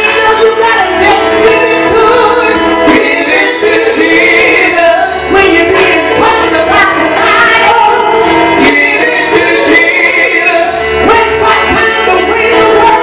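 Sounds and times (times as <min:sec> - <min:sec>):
backing music: 0:00.0 - 0:13.0
woman singing gospel into microphone: 0:00.0 - 0:13.0.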